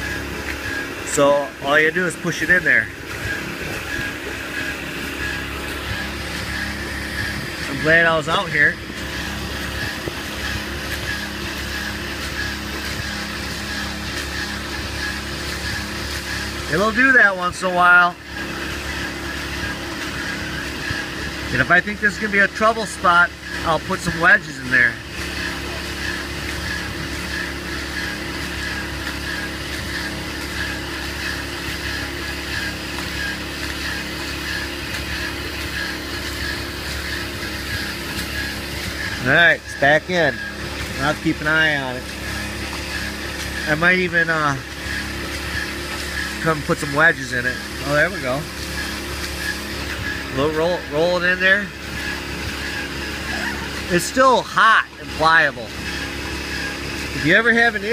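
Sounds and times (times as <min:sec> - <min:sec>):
motor humming steadily: 0:00.0 - 0:57.9.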